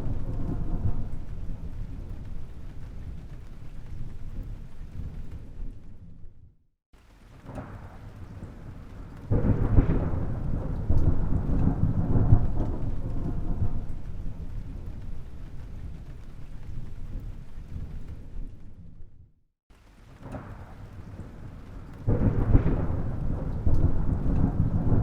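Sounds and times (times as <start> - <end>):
thunder rumbling and clapping: 0.0 - 6.4, 7.3 - 19.3, 20.0 - 25.0.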